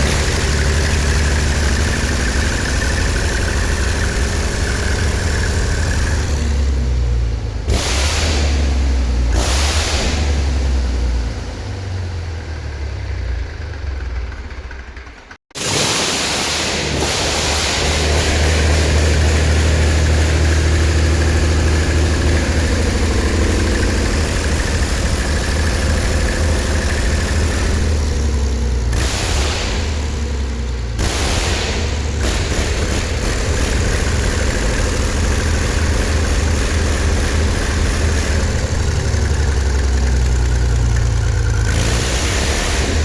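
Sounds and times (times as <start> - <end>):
diesel generator engine rumbling: 0.0 - 15.4, 16.4 - 43.0.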